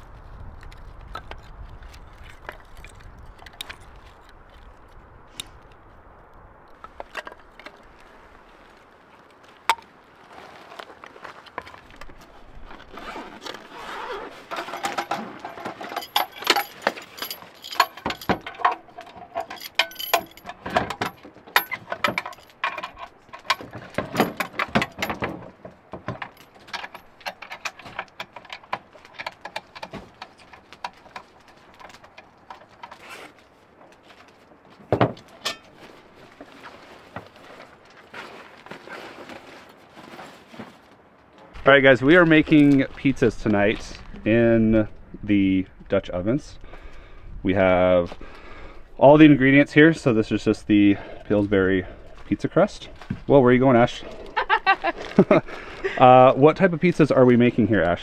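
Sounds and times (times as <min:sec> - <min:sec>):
camping gear clinking: 0:00.5 - 0:05.9, 0:06.7 - 0:45.0, 0:47.6 - 0:58.0.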